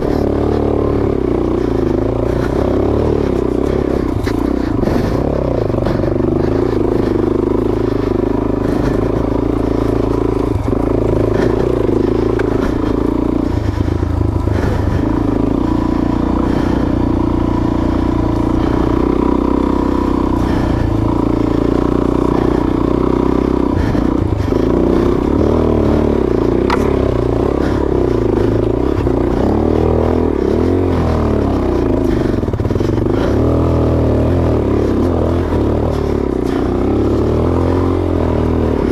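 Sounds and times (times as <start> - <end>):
dirt bike engine pulling: 0.0 - 38.9.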